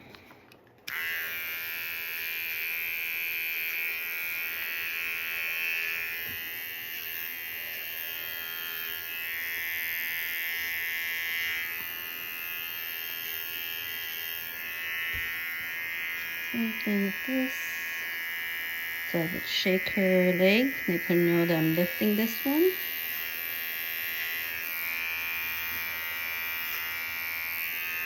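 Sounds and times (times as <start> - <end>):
electric pet shaver buzzing: 0.9 - 28.0.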